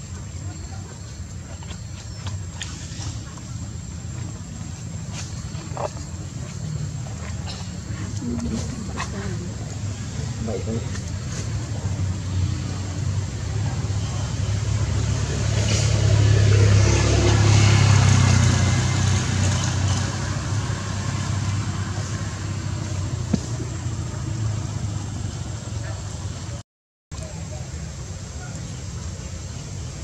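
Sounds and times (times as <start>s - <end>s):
vehicle engine humming: 0.0s - 26.6s.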